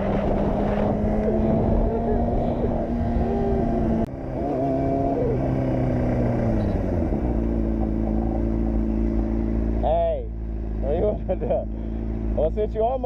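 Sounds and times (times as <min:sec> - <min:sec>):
vehicle engines in traffic: 0:00.0 - 0:13.0.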